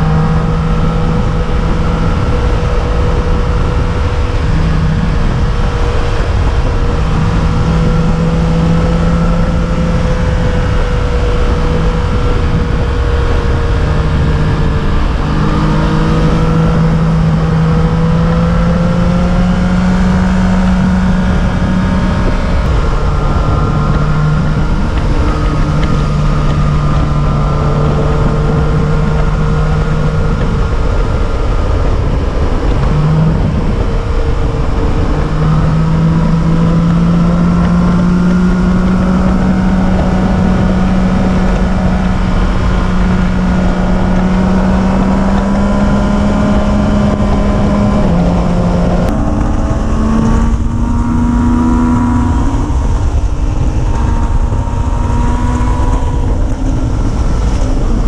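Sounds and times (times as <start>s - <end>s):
road and wind noise: 0.0s - 58.0s
vehicle engine humming: 0.0s - 58.0s.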